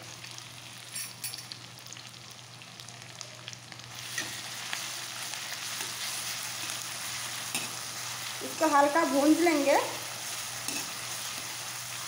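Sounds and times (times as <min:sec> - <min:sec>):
pastes sizzling in hot oil: 0:00.0 - 0:12.0.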